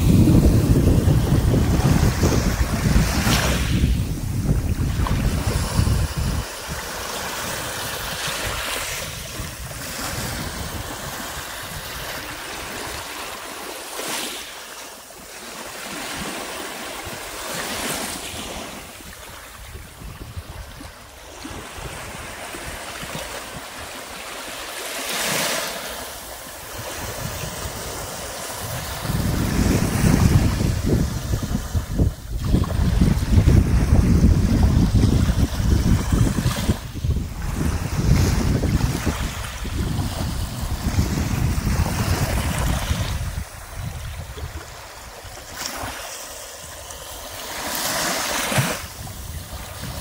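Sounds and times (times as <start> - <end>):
wind buffeting microphone: 0.0 - 13.6, 15.9 - 24.6, 26.1 - 50.0
small waves lapping on sand: 0.0 - 50.0.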